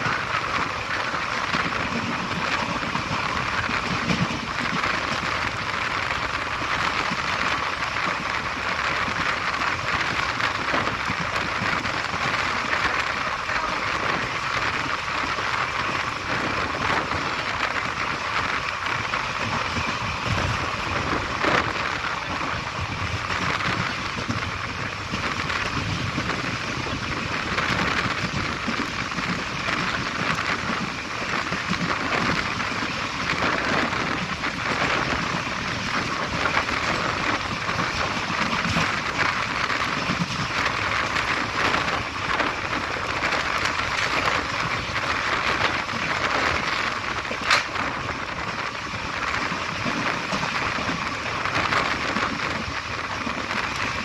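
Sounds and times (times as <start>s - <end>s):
wheel-on-rail rumble: 0.0s - 54.0s.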